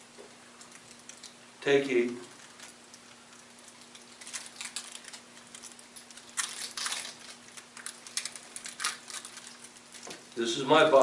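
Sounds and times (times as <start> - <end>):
bread crackling and snapping: 0.0 - 11.0.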